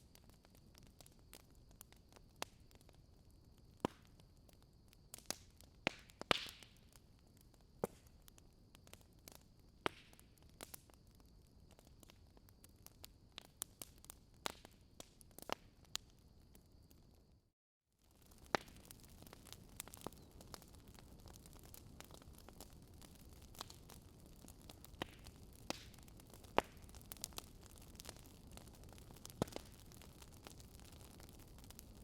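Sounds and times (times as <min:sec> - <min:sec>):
campfire crackling: 0:00.0 - 0:17.4, 0:18.0 - 0:32.0.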